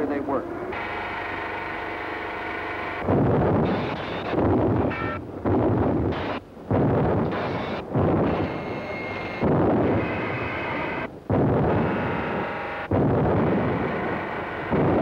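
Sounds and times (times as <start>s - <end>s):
artillery guns booming: 0.7s - 15.0s.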